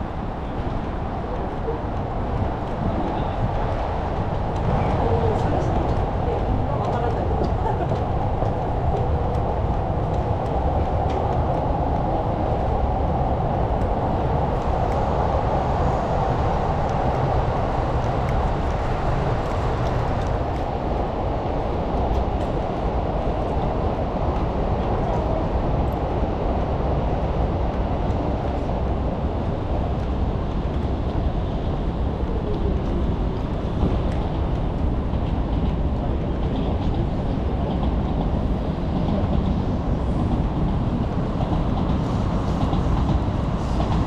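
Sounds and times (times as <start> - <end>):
city traffic rumble: 0.0 - 44.0.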